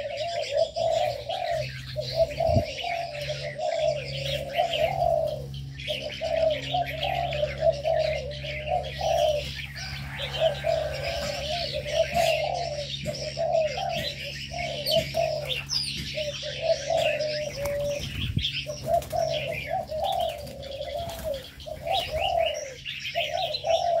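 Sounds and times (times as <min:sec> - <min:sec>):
doves cooing: 0:00.0 - 0:24.0
small birds chirping: 0:00.0 - 0:24.0.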